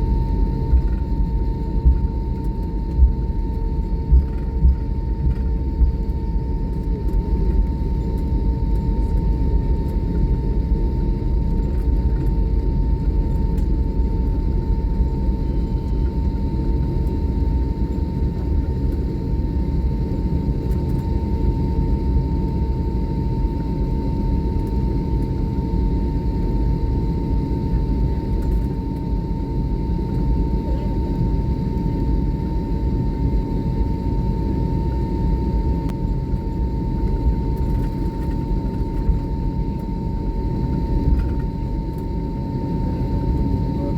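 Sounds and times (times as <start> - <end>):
airliner cabin rumble: 0.0 - 43.9
constant cabin hum: 0.0 - 43.9.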